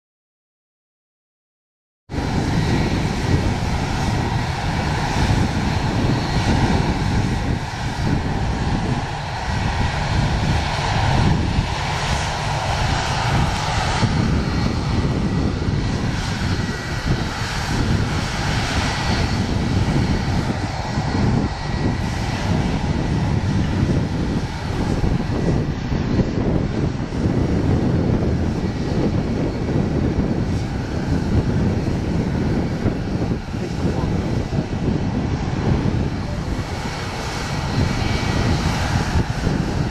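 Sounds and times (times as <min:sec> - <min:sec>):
jet engines at takeoff thrust: 0:02.1 - 0:39.9.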